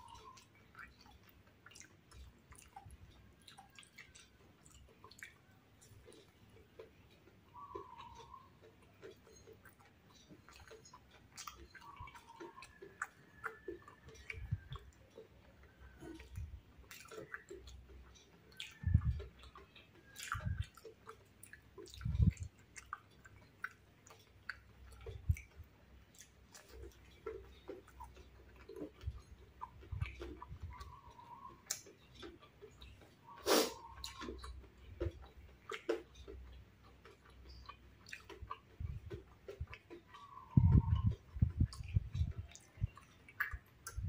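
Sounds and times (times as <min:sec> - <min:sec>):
wet crunchy chewing: 0:00.0 - 0:44.0.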